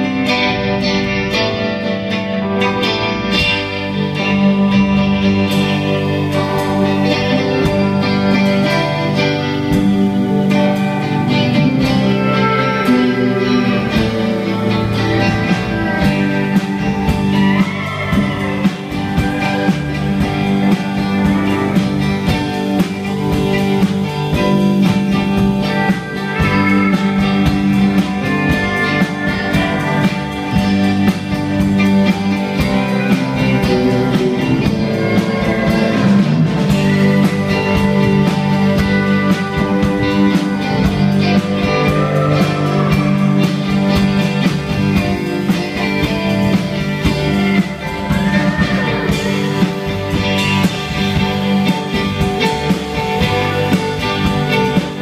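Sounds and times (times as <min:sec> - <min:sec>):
live band instrumental: 0:00.0 - 0:55.0
pedal steel guitar sliding notes: 0:00.0 - 0:55.0.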